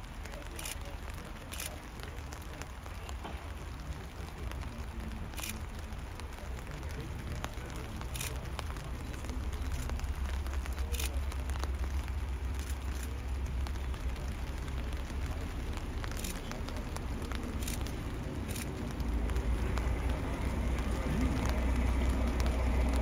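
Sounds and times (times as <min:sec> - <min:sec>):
crackly background noise: 0:00.0 - 0:23.0
locomotive rumble: 0:00.0 - 0:23.0.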